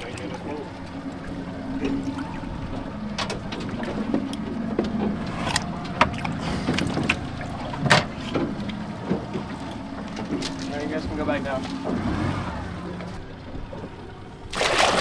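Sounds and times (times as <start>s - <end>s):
boat motor humming: 0.0s - 15.0s
knocks and clatters on boat: 0.0s - 15.0s.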